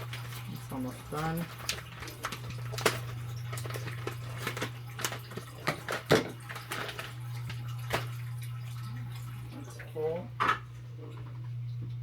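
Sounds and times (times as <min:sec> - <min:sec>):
tap running into water tank: 0:00.0 - 0:11.4.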